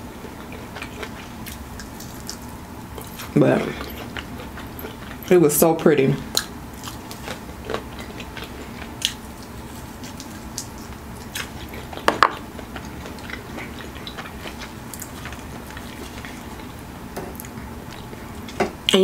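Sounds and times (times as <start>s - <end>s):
close-up chewing: 0.2s - 5.4s, 6.3s - 19.0s.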